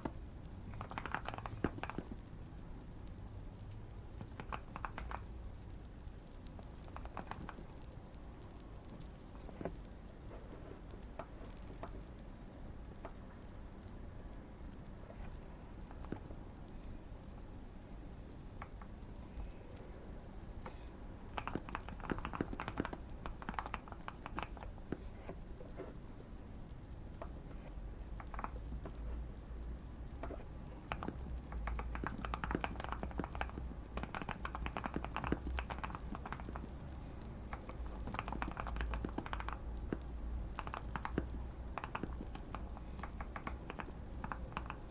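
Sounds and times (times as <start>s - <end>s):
mechanical keyboard typing: 0.0s - 2.3s, 3.3s - 13.9s, 18.6s - 27.4s, 28.0s - 44.9s
fire crackling: 0.0s - 44.9s.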